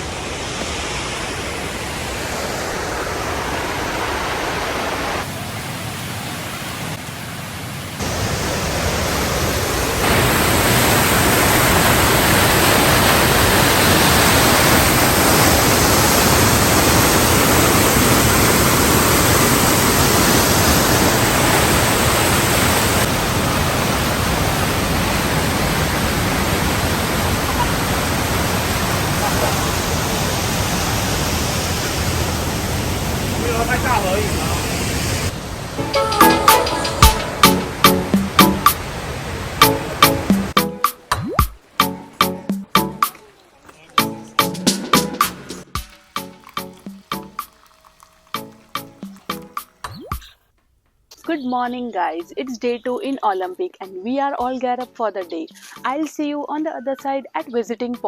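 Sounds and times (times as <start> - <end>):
waterfall rushing: 0.0 - 49.8.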